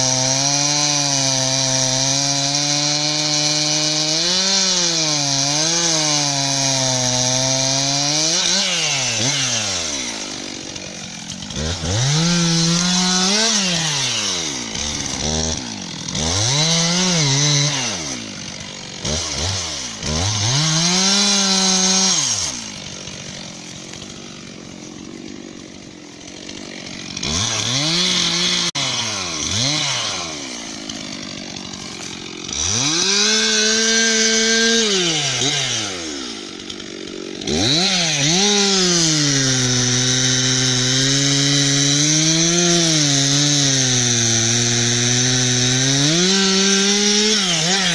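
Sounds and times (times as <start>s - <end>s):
chainsaw cutting tree trunk: 0.0s - 47.9s.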